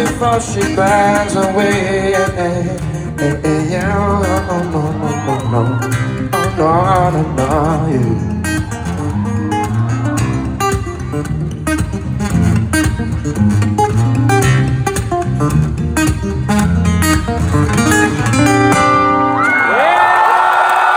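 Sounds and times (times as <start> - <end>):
solo acoustic guitar: 0.0 - 19.4.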